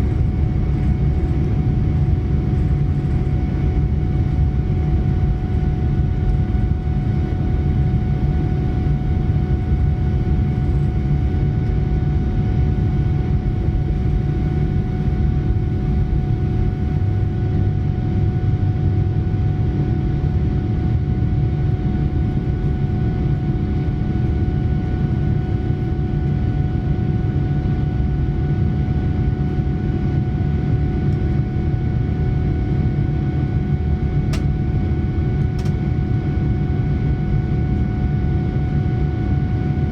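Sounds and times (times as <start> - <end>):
airplane cabin rumble: 0.0 - 39.9
jet engine whine: 0.0 - 39.9.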